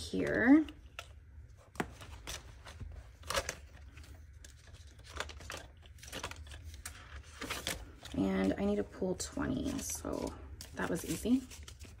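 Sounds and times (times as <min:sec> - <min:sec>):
plastic pages rustling and crinkling: 0:00.5 - 0:12.0.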